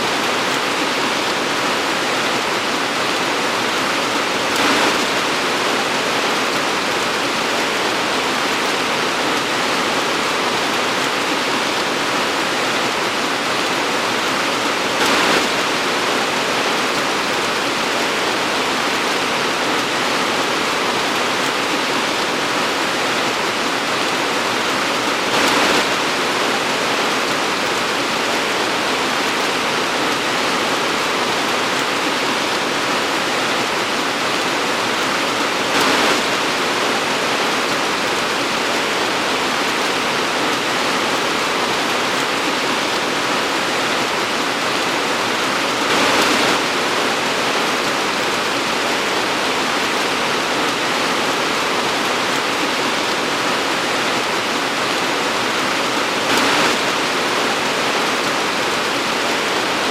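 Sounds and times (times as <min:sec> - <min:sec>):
torrential rain hissing: 0:00.0 - 0:59.9.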